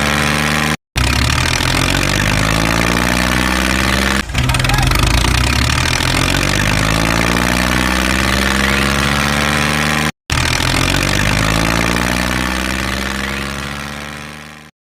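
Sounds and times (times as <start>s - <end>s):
tractor engine running: 0.0s - 14.7s.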